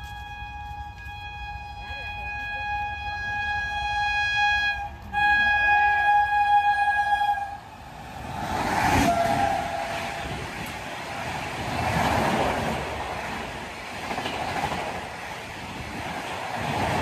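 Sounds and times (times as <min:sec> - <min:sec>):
train passing with rushing roar: 0:00.0 - 0:17.0.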